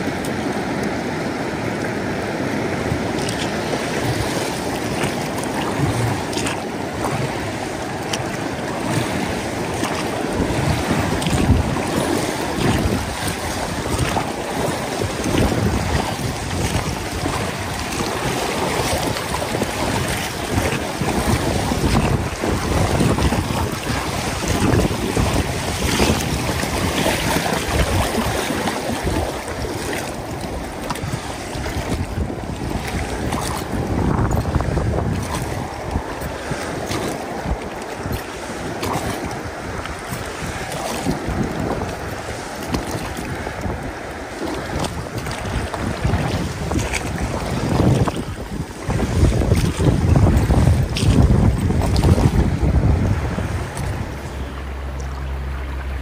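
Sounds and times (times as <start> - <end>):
river water rushing: 0.0 - 56.0
wind buffeting microphone: 0.0 - 56.0.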